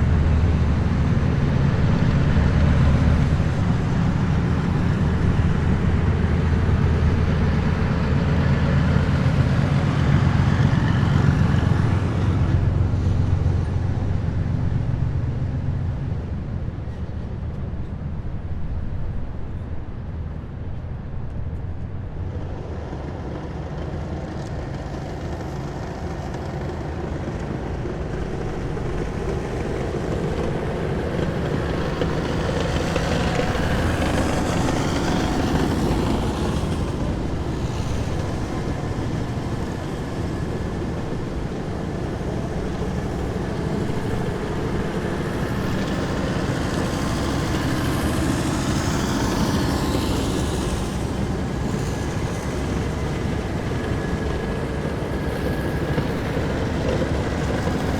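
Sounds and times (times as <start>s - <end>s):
heavy vehicles engine rumble: 0.0s - 57.9s.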